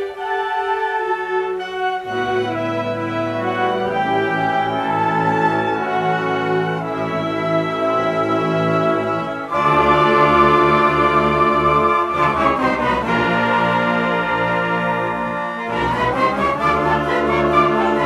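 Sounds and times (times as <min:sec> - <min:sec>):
brass band chords: 0:00.0 - 0:18.0.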